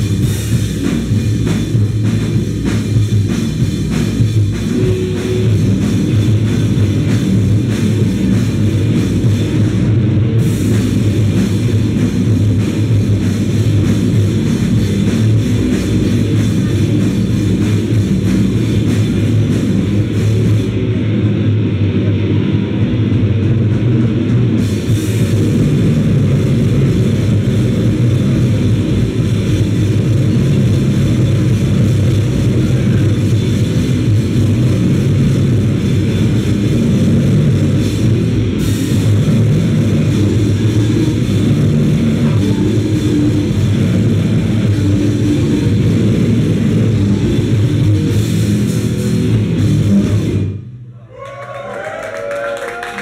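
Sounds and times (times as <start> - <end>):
distorted guitar: 0.0 - 50.9
pounding drum kit: 0.0 - 53.0.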